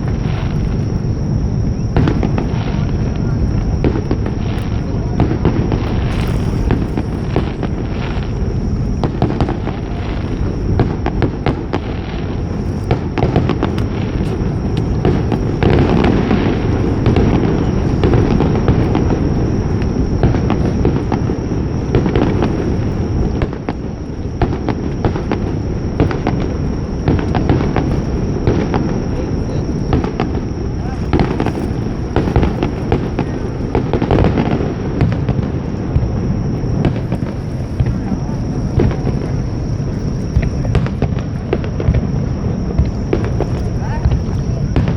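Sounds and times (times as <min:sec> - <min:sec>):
fireworks booming: 0:00.0 - 0:44.9
fireworks crackling pops: 0:00.0 - 0:44.9.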